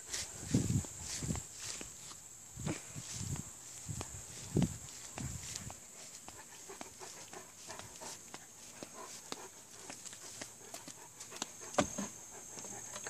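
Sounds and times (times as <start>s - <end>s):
footsteps on lawn and concrete: 0.0s - 13.0s
steady high-pitched hiss: 0.0s - 13.0s.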